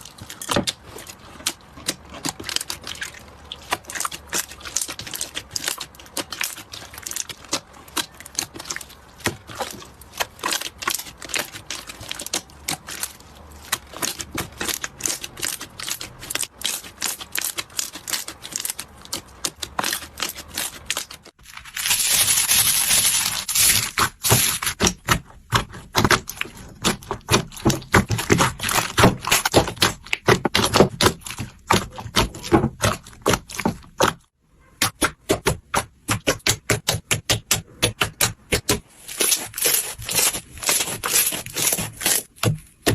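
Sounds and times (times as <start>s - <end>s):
slime clicking and crackling: 0.0s - 42.9s.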